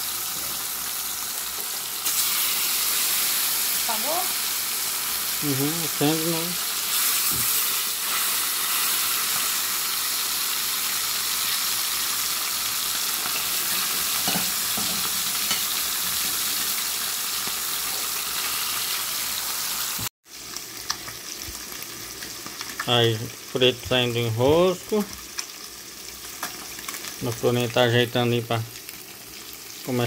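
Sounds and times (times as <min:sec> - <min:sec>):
fish sizzling in hot oil: 0:00.0 - 0:30.0.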